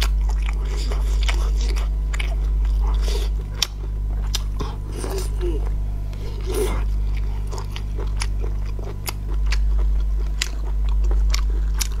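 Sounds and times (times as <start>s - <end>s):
person chewing: 0.0s - 12.0s
steady low hum: 0.0s - 12.0s.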